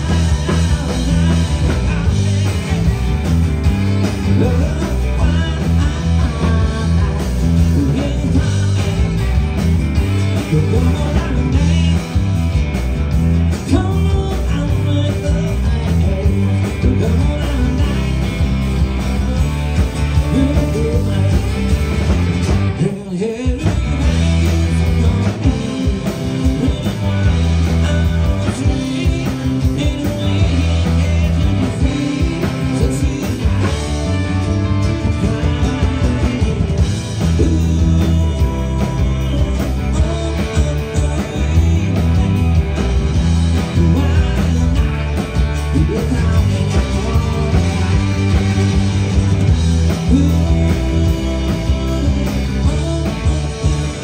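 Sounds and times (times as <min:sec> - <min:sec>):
man singing lead vocal: 0:00.0 - 0:12.5, 0:13.4 - 0:54.0
bass guitar: 0:00.0 - 0:54.0
drum kit: 0:00.0 - 0:54.0
electric guitars: 0:00.0 - 0:54.0.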